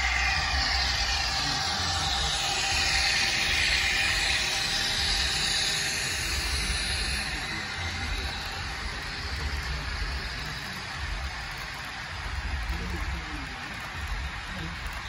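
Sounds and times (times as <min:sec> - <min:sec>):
model train whirring and rolling: 0:00.0 - 0:15.0.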